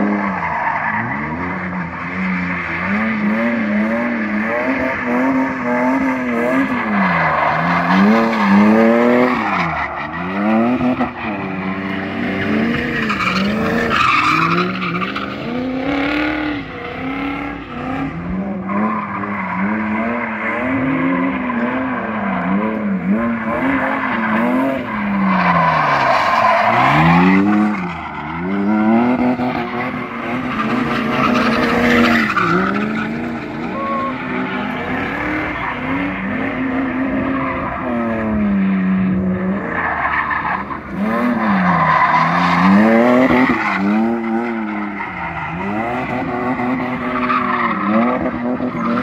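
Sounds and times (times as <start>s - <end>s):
car engine revving: 0.0s - 49.0s
tyres squealing and skidding: 0.0s - 49.0s.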